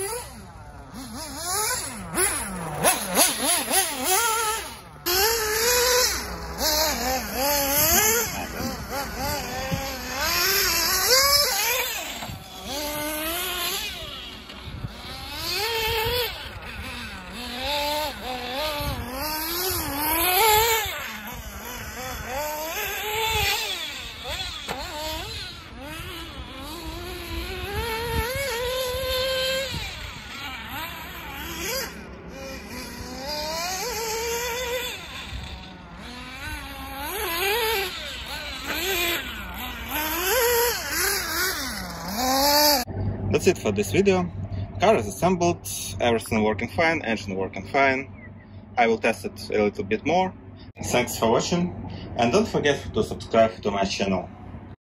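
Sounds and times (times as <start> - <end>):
small nitro engine revving: 0.0 - 54.8.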